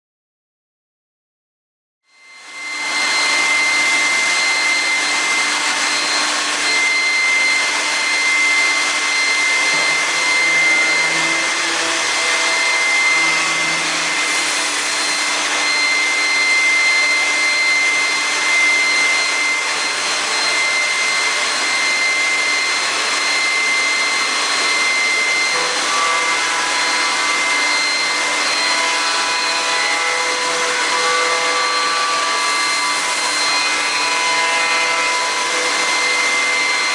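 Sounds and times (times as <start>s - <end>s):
machine high whine: 2.1s - 36.9s.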